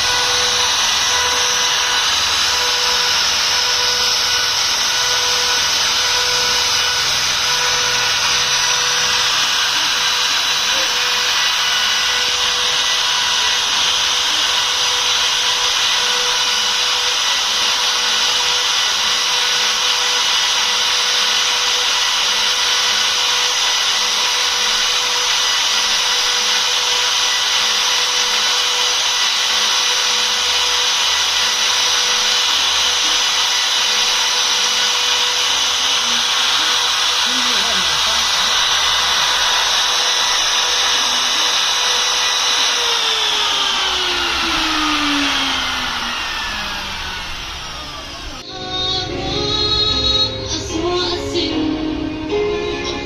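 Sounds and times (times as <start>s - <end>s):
cutter hissing in material: 0.0s - 48.5s
router spindle whine: 0.0s - 50.7s.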